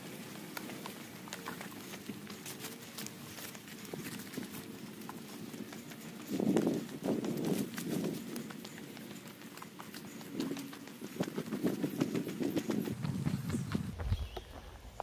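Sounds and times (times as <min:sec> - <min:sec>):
footsteps on a trail: 0:00.0 - 0:15.0.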